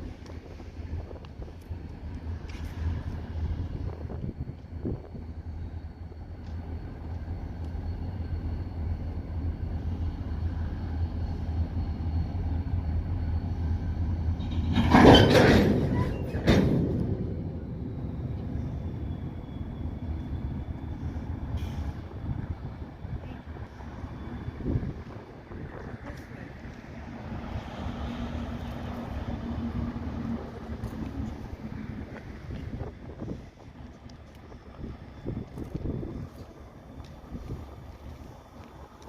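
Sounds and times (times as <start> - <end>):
diesel locomotive rumbling: 0.0 - 39.0.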